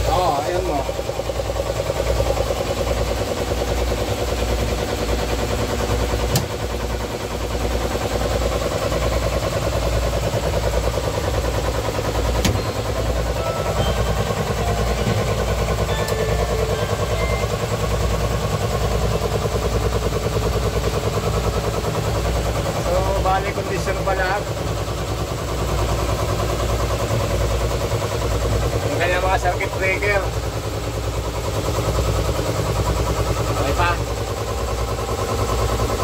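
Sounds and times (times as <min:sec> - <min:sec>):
heavy industrial machinery running: 0:00.0 - 0:36.0.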